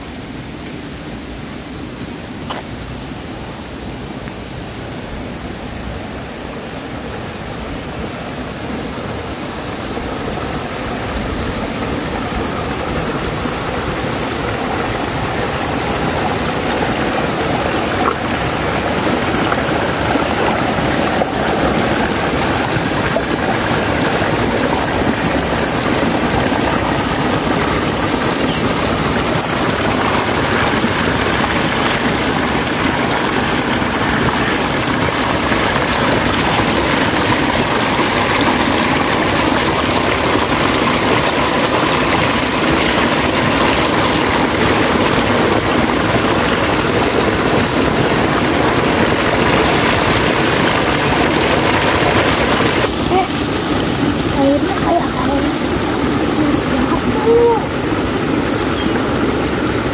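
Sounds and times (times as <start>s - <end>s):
water rushing down a ditch: 5.6s - 59.9s.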